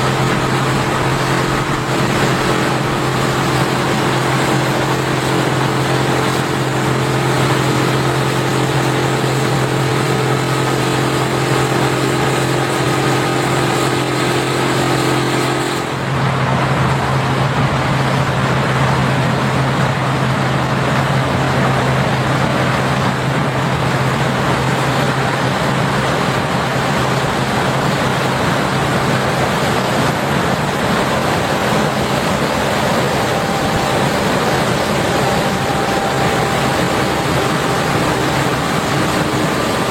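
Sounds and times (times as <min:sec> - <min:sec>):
combine harvester engine drone: 0:00.0 - 0:39.9
higher steady hum: 0:00.0 - 0:39.9.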